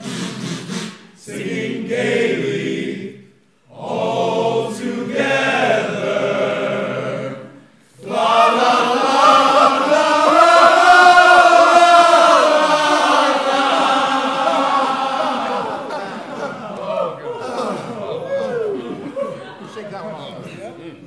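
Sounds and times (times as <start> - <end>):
male a cappella choir singing: 0.0 - 18.2.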